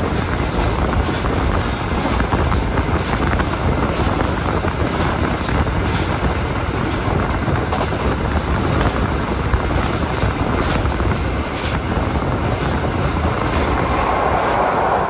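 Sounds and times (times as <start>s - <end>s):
train rumbling and rushing: 0.0s - 15.0s.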